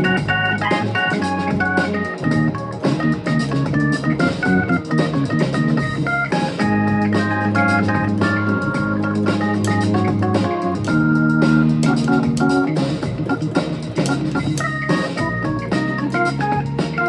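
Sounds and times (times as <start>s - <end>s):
keyboard organ chords and melody: 0.0s - 17.0s.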